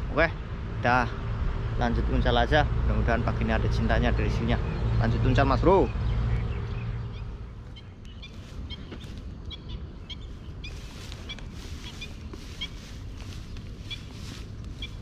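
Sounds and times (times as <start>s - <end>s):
birds chirping: 2.2s - 15.0s.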